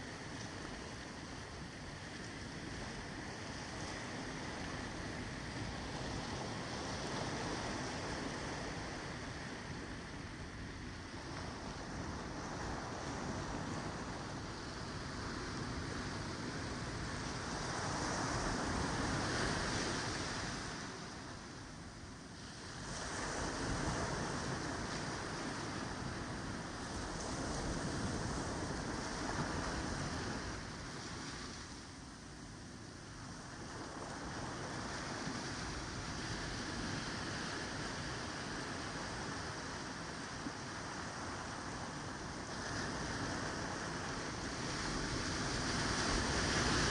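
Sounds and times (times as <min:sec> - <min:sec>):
waves breaking on a beach: 0:00.0 - 0:46.9.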